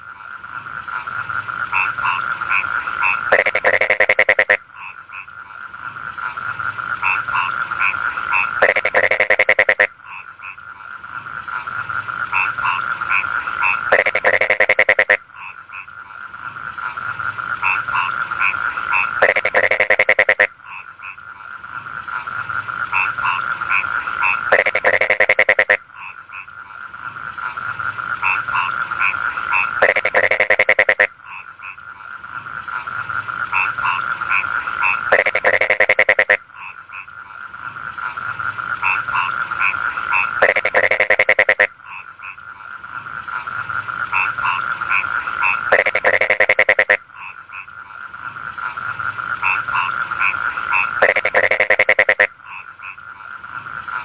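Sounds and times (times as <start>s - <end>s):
frog chorus: 0.0s - 54.0s
frog rapid pulsed call: 0.0s - 54.0s.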